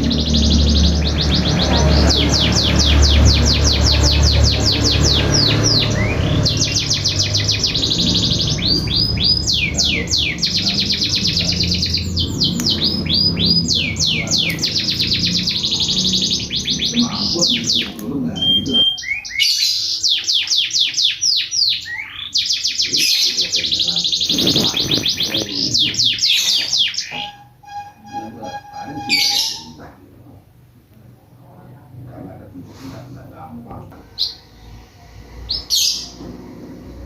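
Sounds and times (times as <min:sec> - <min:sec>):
lovebird chirping: 0:00.0 - 0:29.9.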